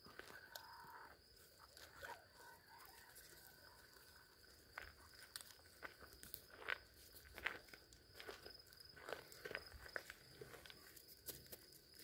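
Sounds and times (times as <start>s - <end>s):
footsteps crunching on gravel: 0.0s - 12.0s
night insects chirring: 0.0s - 12.0s.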